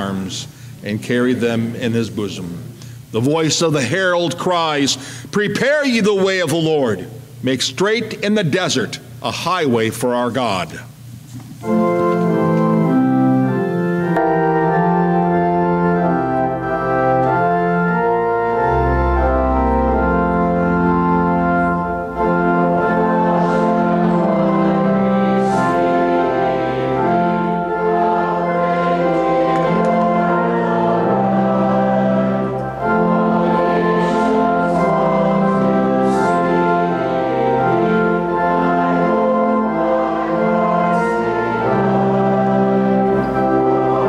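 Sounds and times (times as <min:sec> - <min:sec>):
church organ playing a hymn: 0:00.0 - 0:44.0.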